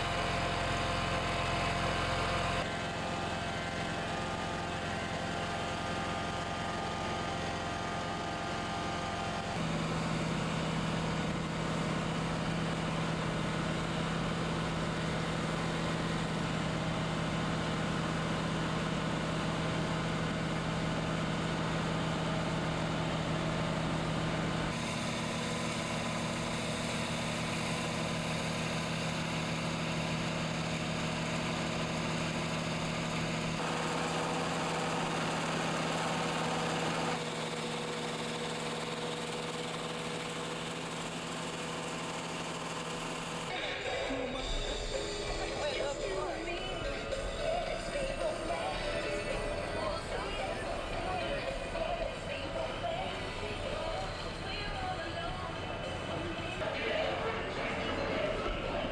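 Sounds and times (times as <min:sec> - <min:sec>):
motor humming: 0:00.0 - 0:58.9.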